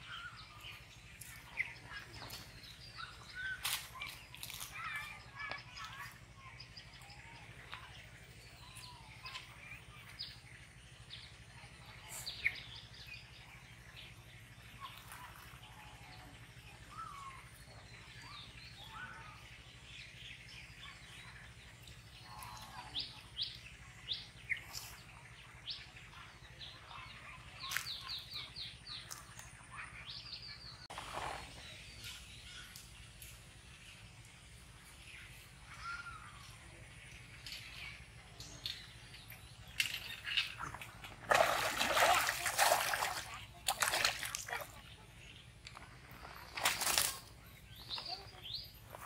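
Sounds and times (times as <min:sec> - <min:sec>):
faint background hum: 0:00.0 - 0:49.0
small birds chirping: 0:00.0 - 0:49.0.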